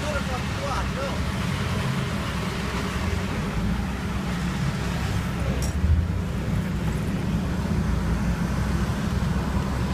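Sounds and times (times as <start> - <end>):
bus engine rumble: 0.0 - 9.9
traffic noise: 0.0 - 9.9.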